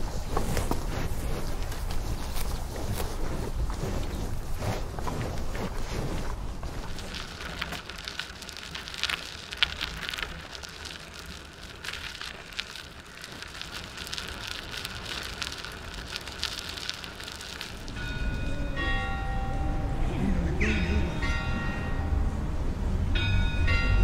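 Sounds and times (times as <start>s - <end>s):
bicycle tyres on gravel: 0.0s - 22.2s
low rumble: 0.0s - 24.0s.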